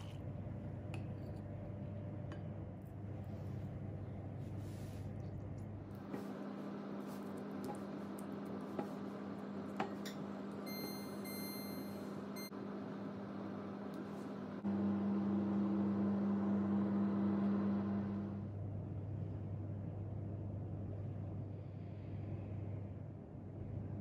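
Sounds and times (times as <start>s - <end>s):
oven running: 0.0s - 19.8s.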